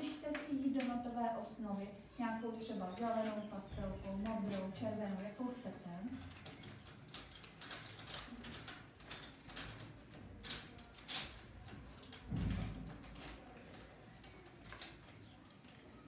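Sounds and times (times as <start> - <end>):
pencils clicking and rustling: 0.0 - 16.0.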